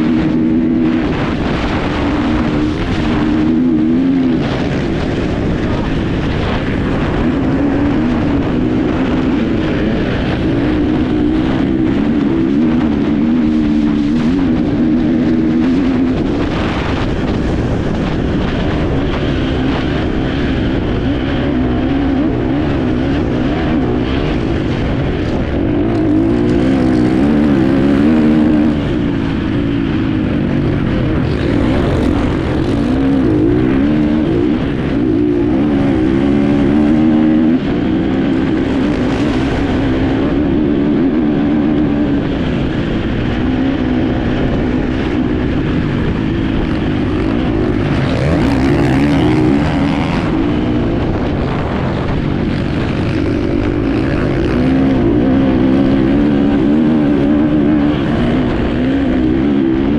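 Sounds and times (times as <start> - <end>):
motorcycle engine revving: 0.0 - 59.9
wind and riding noise: 0.0 - 59.9.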